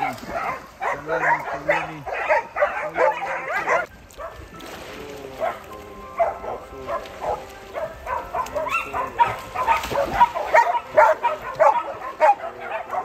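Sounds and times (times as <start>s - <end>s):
dog barking and yipping: 0.0s - 4.4s, 6.2s - 13.0s.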